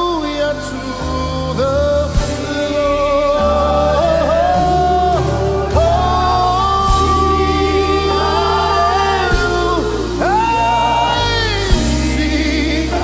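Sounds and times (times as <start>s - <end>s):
band accompaniment: 0.0s - 13.0s
people singing gospel refrain: 0.0s - 13.0s.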